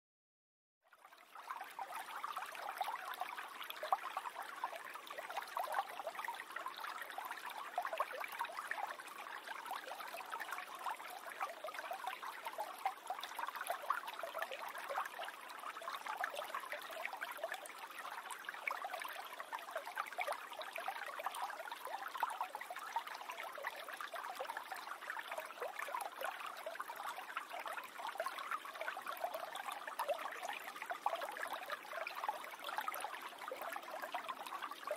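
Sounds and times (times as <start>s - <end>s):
stream babbling over stones: 1.4s - 34.9s.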